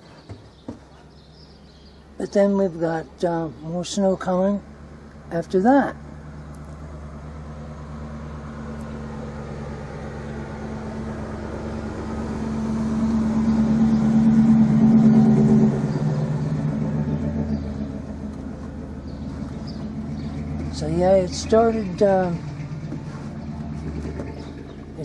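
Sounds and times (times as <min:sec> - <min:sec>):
vehicle driving by: 0:02.8 - 0:25.0.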